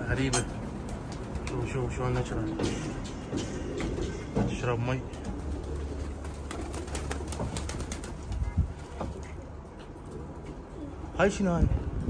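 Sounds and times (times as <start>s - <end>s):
doves cooing: 0.6s - 11.2s.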